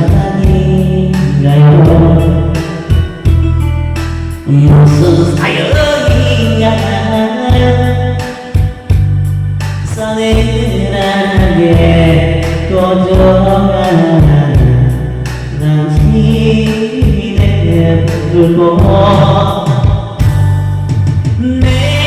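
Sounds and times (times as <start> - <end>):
music with heavy bass and beat: 0.0 - 22.0
person singing: 0.0 - 22.0.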